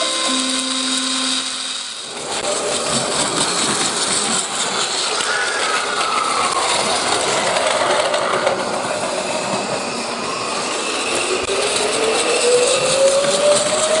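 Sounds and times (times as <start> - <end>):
electric train motor whine: 0.0 - 14.0.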